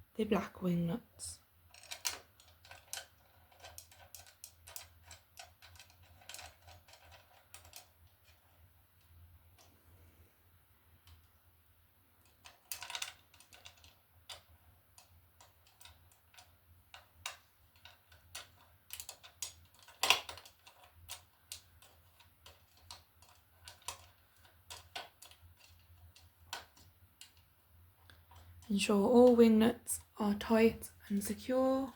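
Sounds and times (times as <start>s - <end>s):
small clicks rattles and knocks: 1.6s - 9.8s, 12.2s - 31.9s.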